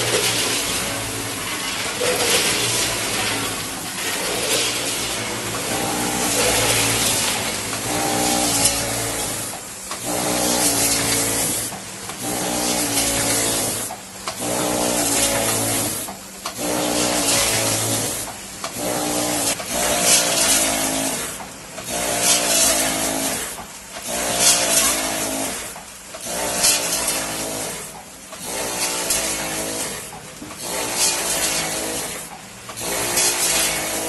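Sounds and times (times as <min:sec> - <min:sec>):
packing machine motor hum: 0:00.0 - 0:34.0.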